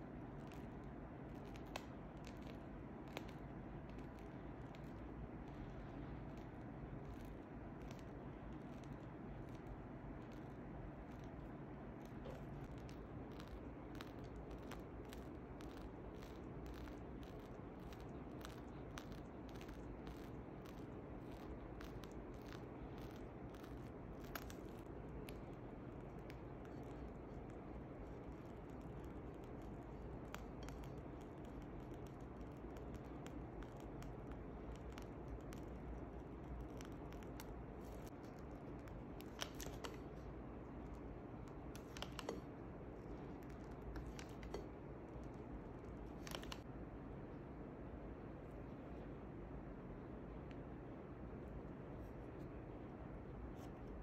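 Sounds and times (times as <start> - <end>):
piping bag crackling: 0.0 - 46.7
low steady hum: 0.0 - 54.0
faint scattered clicks: 0.2 - 46.7.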